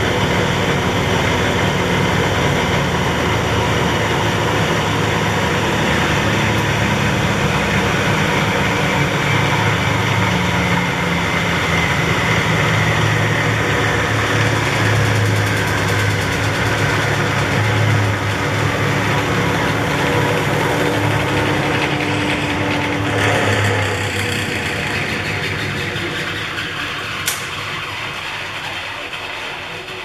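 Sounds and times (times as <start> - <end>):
washing machine motor humming: 0.0 - 30.0.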